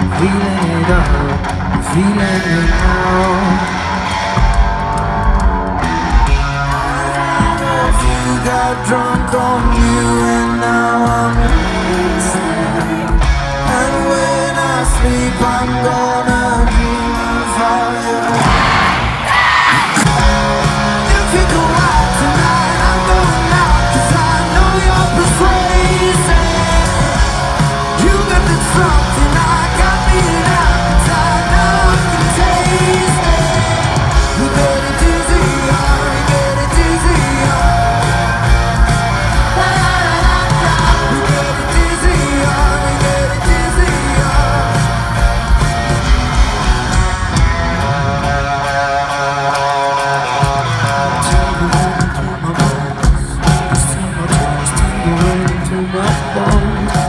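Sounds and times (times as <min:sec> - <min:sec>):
male lead vocal: 0:00.0 - 0:05.2, 0:05.8 - 0:57.0
bass: 0:00.0 - 0:57.0
drums: 0:00.0 - 0:57.0
electric guitar: 0:00.0 - 0:57.0.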